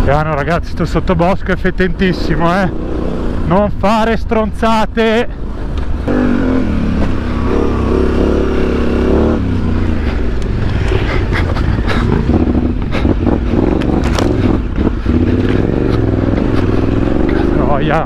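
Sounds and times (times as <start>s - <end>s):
motorcycle engine: 0.0s - 4.2s, 5.0s - 18.0s.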